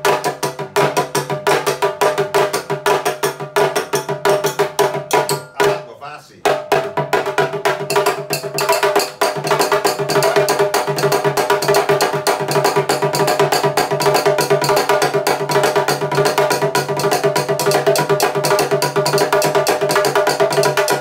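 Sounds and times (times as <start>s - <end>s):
hand drum rhythm: 0.0s - 21.0s.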